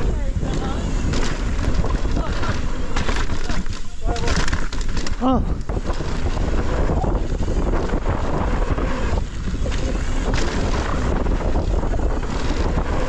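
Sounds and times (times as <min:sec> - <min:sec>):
bike tyres rumbling on dirt: 0:00.0 - 0:13.0
wind buffeting microphone: 0:00.0 - 0:13.0
bike clicks and knocks: 0:00.4 - 0:08.2, 0:09.4 - 0:13.0.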